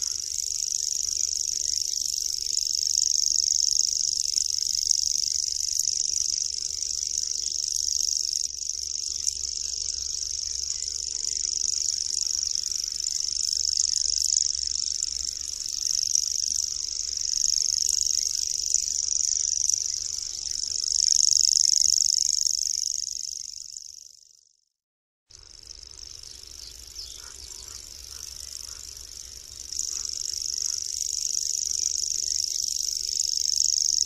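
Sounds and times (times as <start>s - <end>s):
bird reeling trill: 0.0s - 24.5s, 25.3s - 34.0s.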